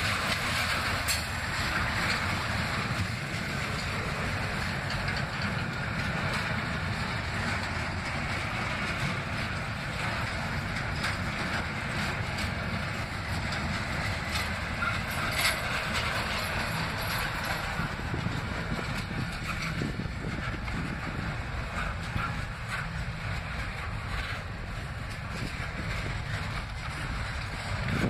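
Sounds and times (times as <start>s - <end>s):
freight car clanks: 0.0s - 28.0s
freight train wheels rumbling: 0.0s - 28.0s.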